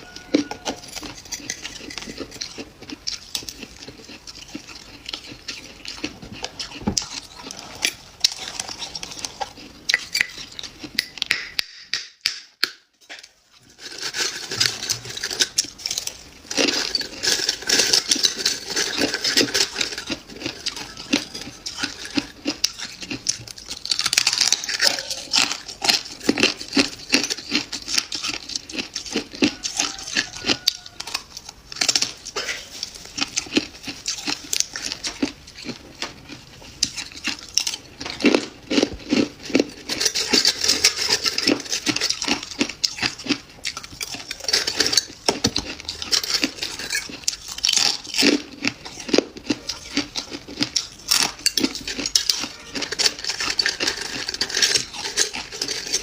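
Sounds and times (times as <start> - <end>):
frost being chewed: 0.0 - 11.7, 13.0 - 56.0.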